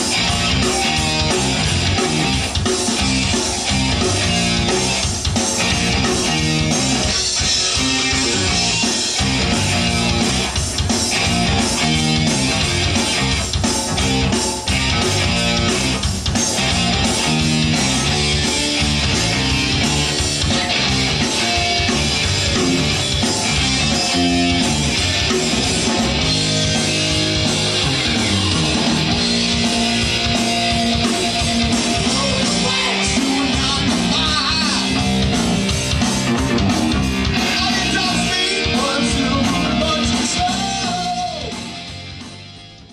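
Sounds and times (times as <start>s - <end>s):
bass guitar: 0.0s - 42.9s
drums: 0.0s - 42.9s
electric guitars: 0.0s - 42.9s.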